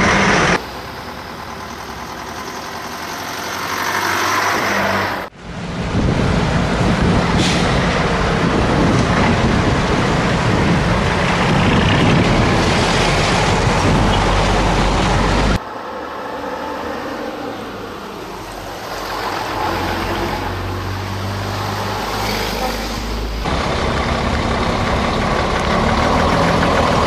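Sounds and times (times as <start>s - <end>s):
diesel trucks driving past: 0.0s - 27.0s
truck engine close by: 0.0s - 27.0s.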